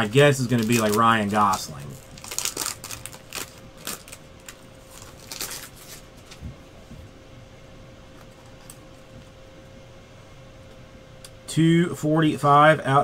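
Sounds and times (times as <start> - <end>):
faint steady hum: 0.0 - 13.0
thin steady whine: 0.0 - 13.0.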